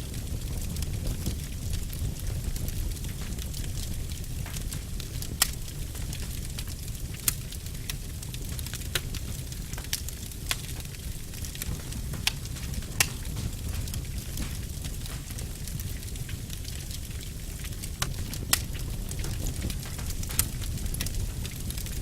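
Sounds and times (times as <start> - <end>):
fire crackling and popping: 0.0 - 22.0
fire low rumble: 0.0 - 22.0.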